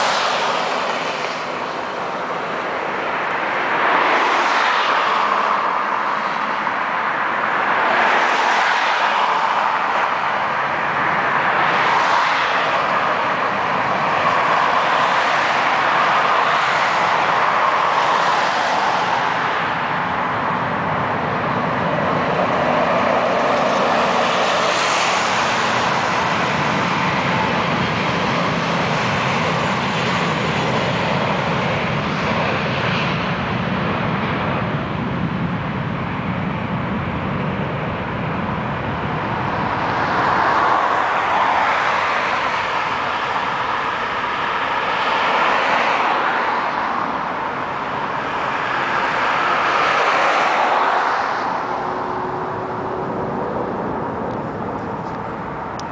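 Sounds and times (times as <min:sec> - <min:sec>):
vehicle road and engine noise: 0:00.0 - 0:55.9.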